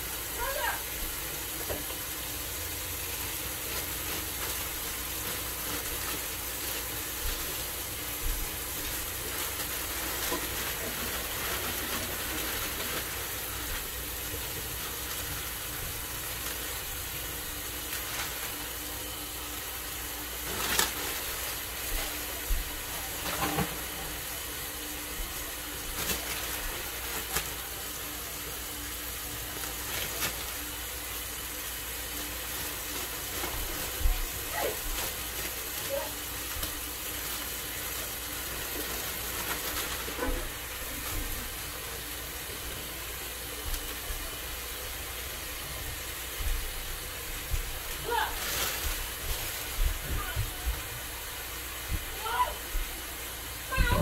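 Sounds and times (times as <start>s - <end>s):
plastic bags crinkling: 0.4s - 46.4s, 47.2s - 51.4s.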